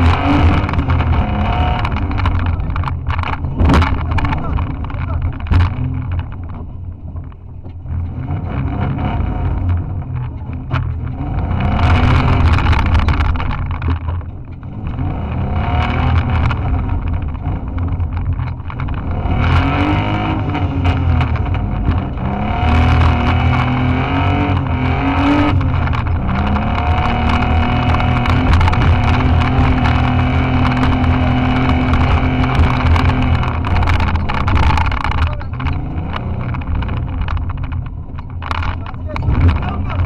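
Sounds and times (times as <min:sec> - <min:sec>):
bodywork knocks and rattles: 0:00.0 - 0:08.2, 0:10.0 - 0:15.1, 0:15.8 - 0:40.0
car engine revving: 0:00.0 - 0:40.0.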